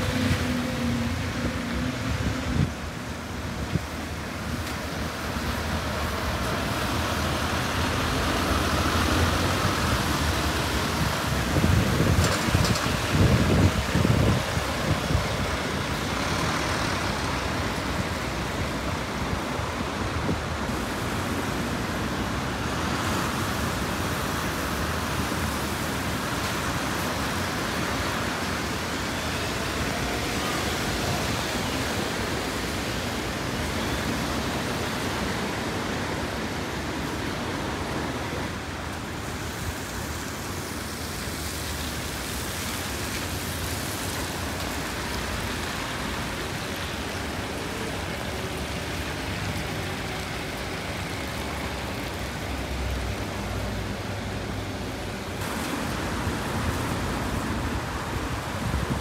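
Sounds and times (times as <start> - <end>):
street traffic: 0.0 - 59.0
tyres hissing on wet road: 0.0 - 59.0.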